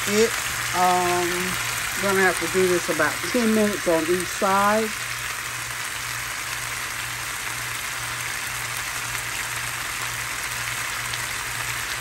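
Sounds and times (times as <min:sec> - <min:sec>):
chicken sizzling in grill pan: 0:00.0 - 0:12.0.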